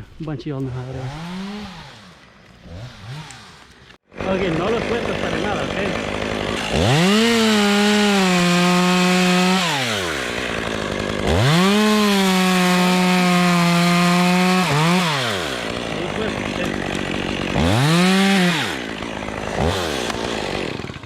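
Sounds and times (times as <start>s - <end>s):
chainsaw cutting wood: 0.6s - 21.0s.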